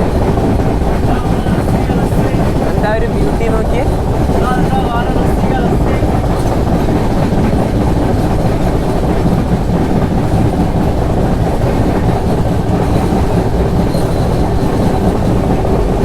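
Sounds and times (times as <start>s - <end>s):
train wheels running on rails: 0.0s - 16.0s.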